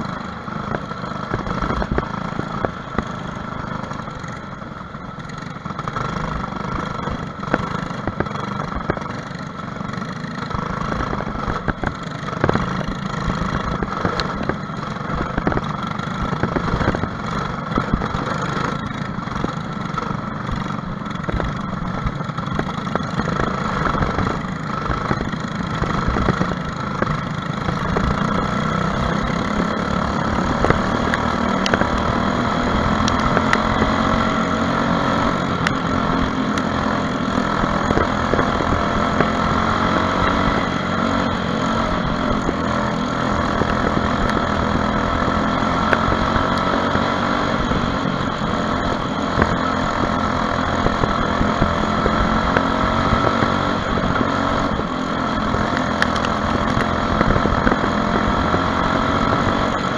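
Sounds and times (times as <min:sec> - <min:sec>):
kart engine running hard: 0:00.0 - 0:59.9.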